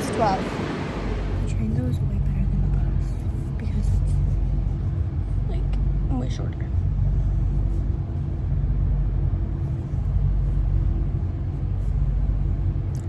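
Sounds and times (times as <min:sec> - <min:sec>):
faint steady hum: 0:00.0 - 0:13.0
train running rumble: 0:00.0 - 0:13.0.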